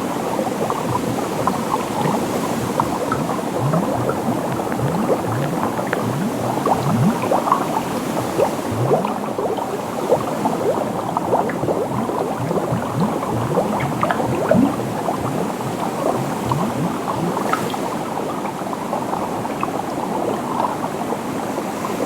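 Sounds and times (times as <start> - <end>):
bubbles blipping: 0.0 - 22.0.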